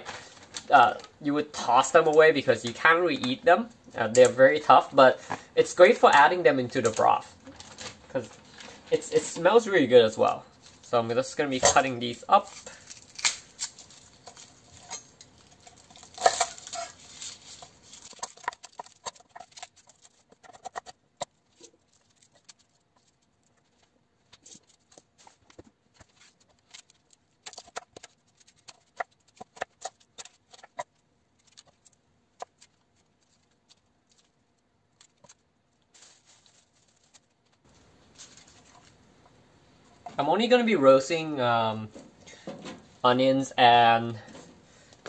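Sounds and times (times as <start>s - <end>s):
garlic skins crackling: 0.0s - 39.3s.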